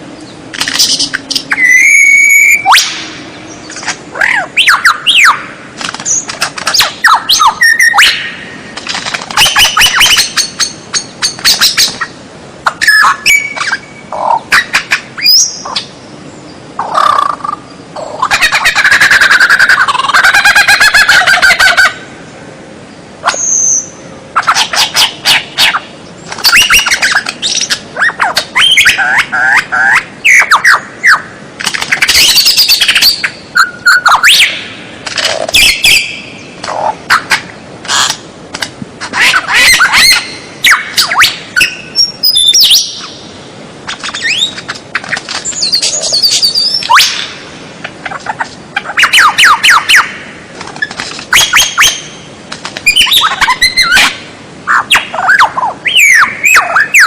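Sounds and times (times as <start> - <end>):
bird singing varied song: 0.0 - 22.0, 22.8 - 34.8, 35.4 - 38.2, 39.1 - 47.4, 48.8 - 57.0
bird trilling: 0.2 - 16.0, 16.8 - 22.0, 23.2 - 38.2, 39.0 - 43.3, 43.9 - 47.4, 48.0 - 52.2, 52.8 - 57.0.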